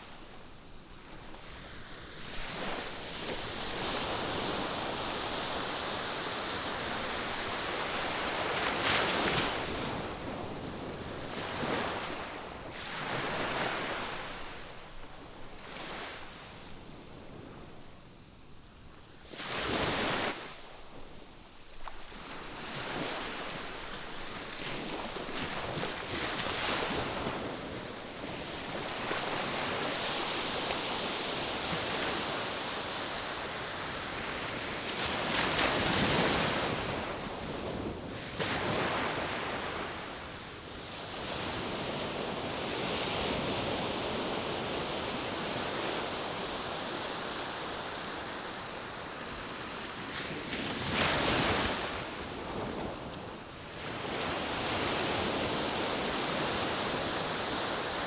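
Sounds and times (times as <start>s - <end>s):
ocean surf washing ashore: 0.0s - 17.4s, 21.5s - 58.0s.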